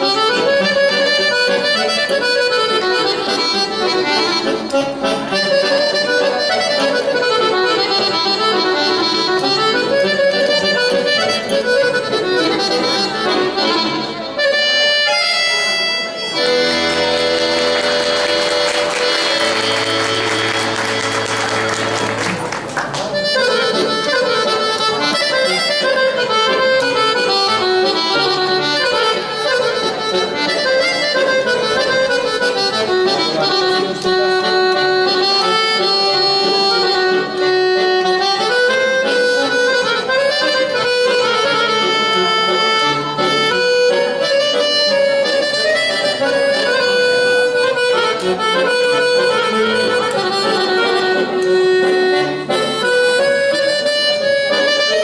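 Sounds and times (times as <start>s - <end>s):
piano accordion playing: 0.0s - 55.0s.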